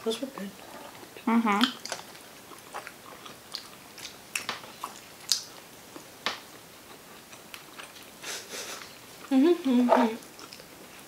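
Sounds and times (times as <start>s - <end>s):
people chewing sushi: 0.2s - 11.0s.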